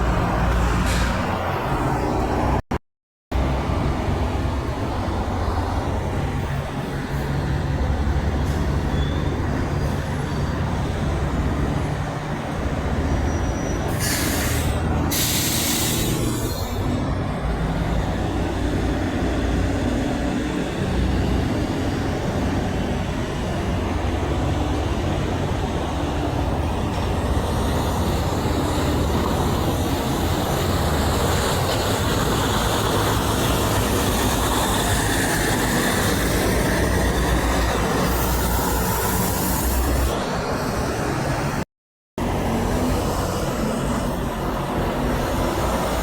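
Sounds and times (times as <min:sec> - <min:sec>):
heavy vehicles rumbling past: 0:00.0 - 0:02.6, 0:03.3 - 0:41.6, 0:42.2 - 0:46.0.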